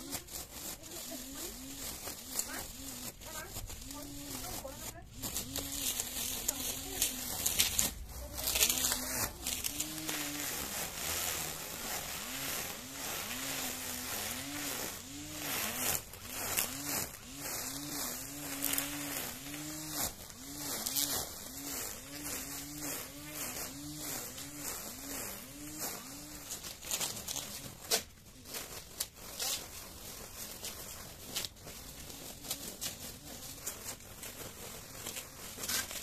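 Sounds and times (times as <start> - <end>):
grass swishing as struck: 0.0 - 36.0
grass trimmer motor whine: 0.0 - 36.0.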